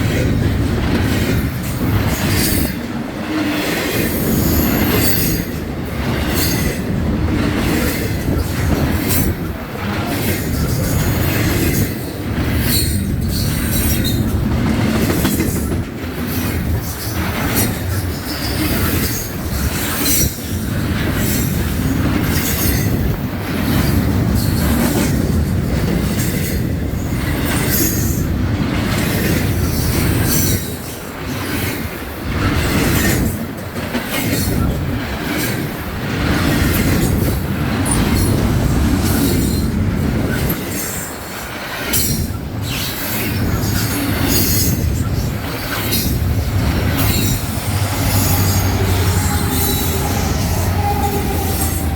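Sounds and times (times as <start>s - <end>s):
freight train cars rumbling past: 0.0s - 51.9s
wheels clicking over rail joints: 0.1s - 51.9s.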